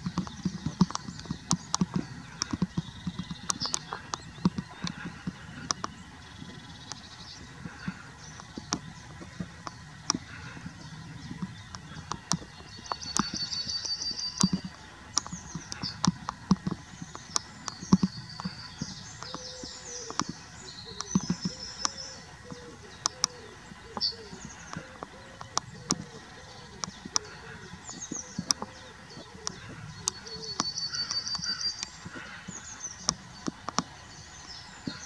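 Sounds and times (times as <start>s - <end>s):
sharp clicks and taps: 0.0s - 7.0s, 7.7s - 34.0s
songbirds singing: 0.0s - 35.0s.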